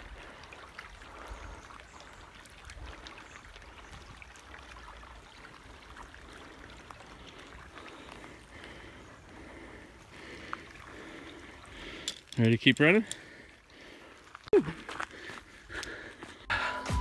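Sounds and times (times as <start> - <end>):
creek trickling and babbling: 0.0 - 16.5.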